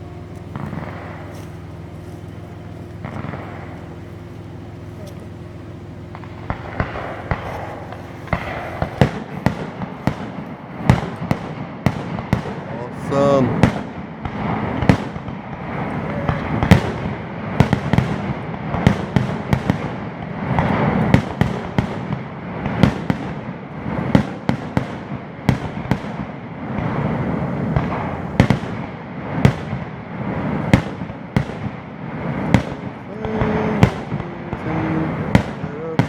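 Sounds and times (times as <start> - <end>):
firework shells bursting: 0.0 - 36.0
fireworks crackling: 0.0 - 36.0.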